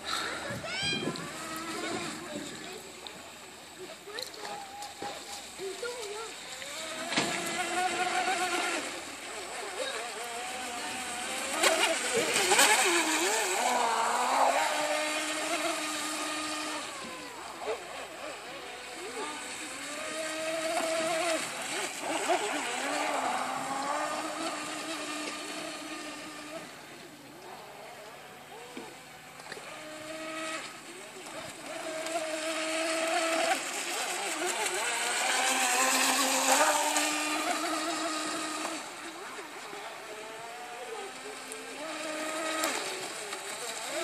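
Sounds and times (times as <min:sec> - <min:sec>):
rc boat electric motor whining: 0:00.0 - 0:44.0.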